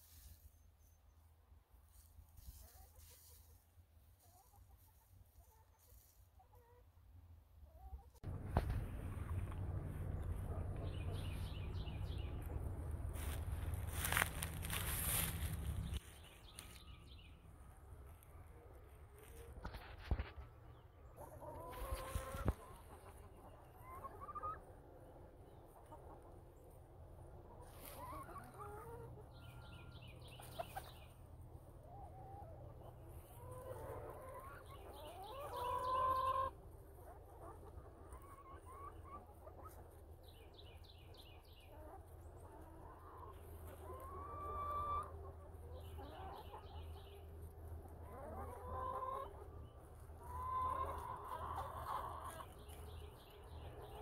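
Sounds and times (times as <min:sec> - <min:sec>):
chickens clucking and calling: 0:00.0 - 0:54.0.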